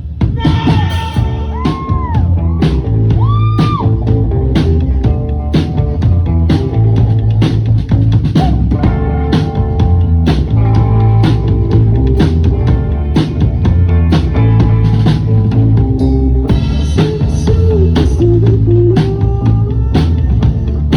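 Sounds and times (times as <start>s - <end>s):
drum kit steady beat: 0.0s - 20.9s
rock band playing live: 0.0s - 20.9s.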